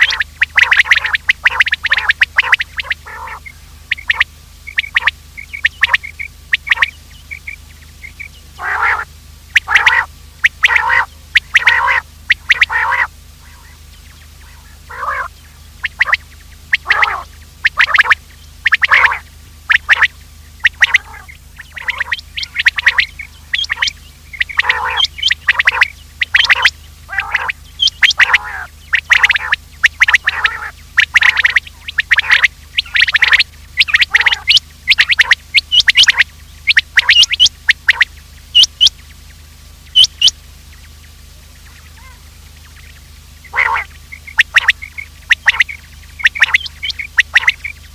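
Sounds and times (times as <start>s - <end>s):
quail calling: 0.0s - 39.1s, 39.9s - 47.9s.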